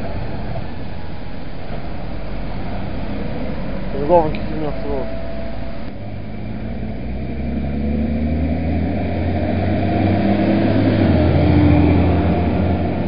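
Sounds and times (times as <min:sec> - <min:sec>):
diesel tractor engines humming: 0:00.0 - 0:13.0.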